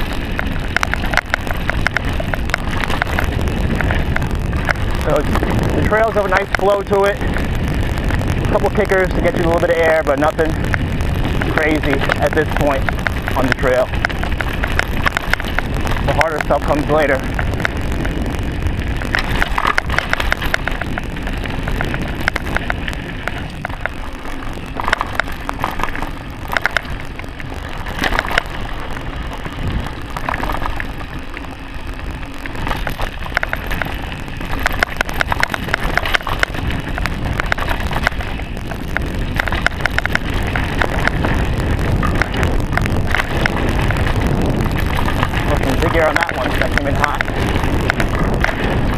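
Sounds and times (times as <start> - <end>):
bike rattling over bumps: 0.0 - 48.9
bike tyres rumbling on dirt: 0.0 - 48.9
wind on microphone: 0.0 - 48.9.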